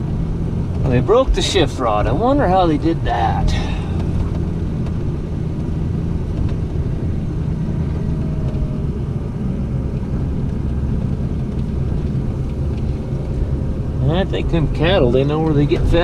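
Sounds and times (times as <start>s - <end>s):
vehicle engine and body rumble: 0.0s - 16.0s.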